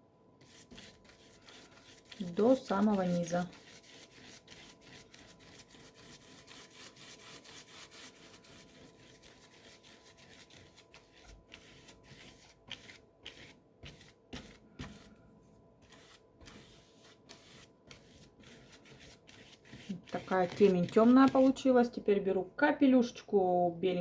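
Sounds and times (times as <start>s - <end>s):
brush scrubbing paint on paper: 0.4s - 15.2s, 15.8s - 21.6s.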